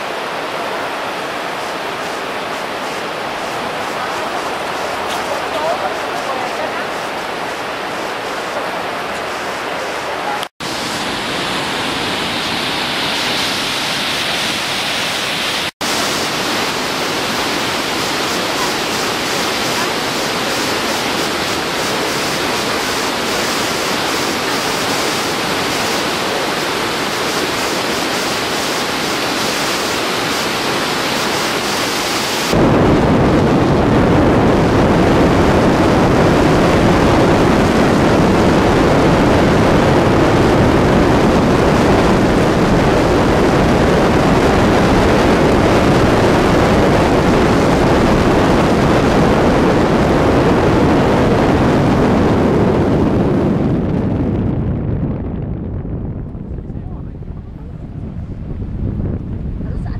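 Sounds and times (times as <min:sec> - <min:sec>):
waterfall rushing: 0:00.0 - 0:51.8.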